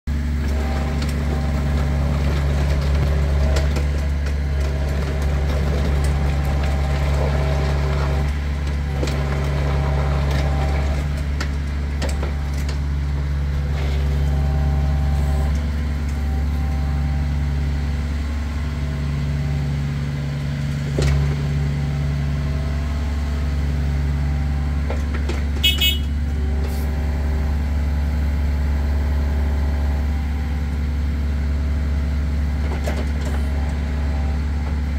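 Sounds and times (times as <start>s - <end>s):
excavator diesel engine running: 0.1s - 34.9s
hydraulics whining: 0.2s - 34.9s.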